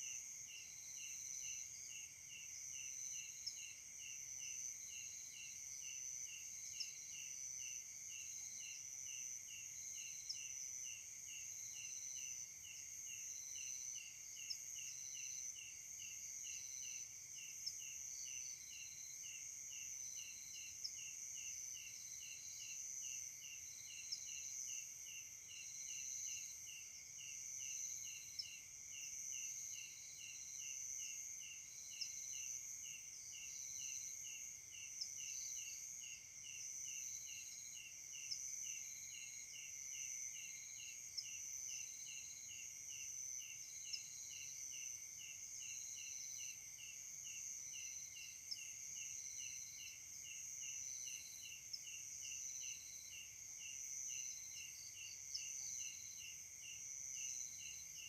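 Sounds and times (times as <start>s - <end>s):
insect buzz: 0.0s - 58.0s
insect chirping pulse: 0.5s - 58.0s.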